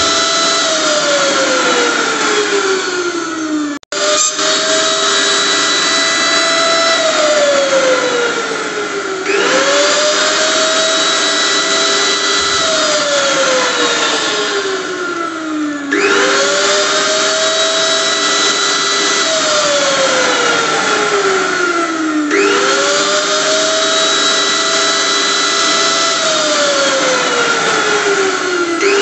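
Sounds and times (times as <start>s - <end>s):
electric blender motor whining: 0.0s - 29.0s.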